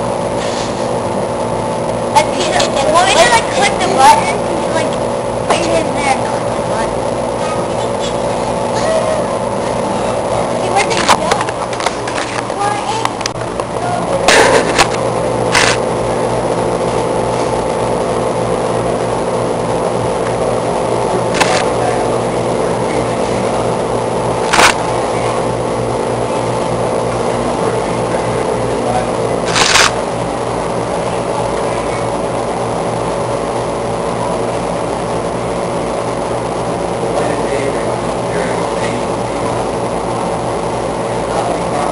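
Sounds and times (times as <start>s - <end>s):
fans rushing air: 0.0s - 41.9s
low electrical hum: 0.0s - 41.9s.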